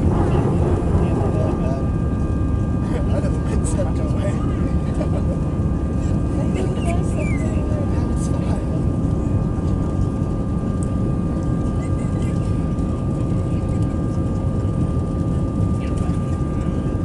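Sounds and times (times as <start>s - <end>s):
high engine whine: 0.0s - 17.0s
jet engine and airflow rumble: 0.0s - 17.0s.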